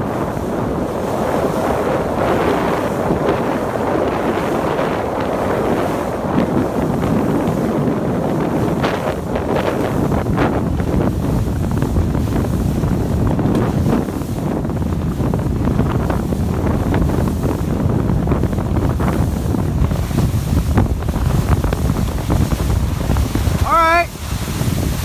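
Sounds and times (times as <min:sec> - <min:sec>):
jet skis running: 0:00.0 - 0:25.0
water rushing and splashing: 0:00.0 - 0:25.0
wind buffeting microphone: 0:00.0 - 0:25.0.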